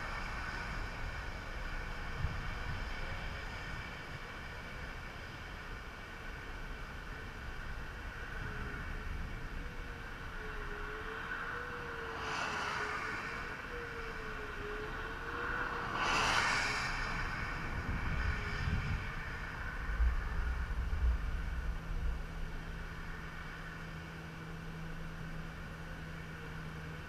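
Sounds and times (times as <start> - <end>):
wind gusts buffeting microphone: 0.0 - 10.4, 11.7 - 24.2
highway traffic passing: 0.0 - 27.0.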